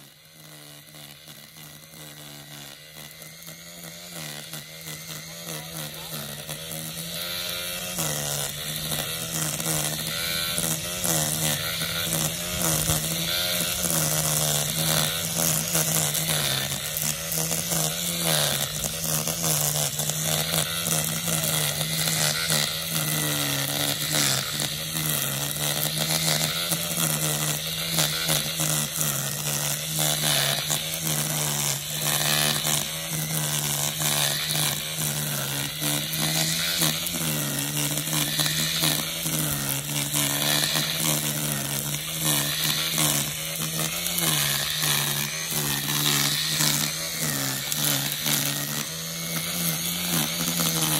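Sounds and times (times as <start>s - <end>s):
line trimmer cutting grass: 0.0s - 50.9s.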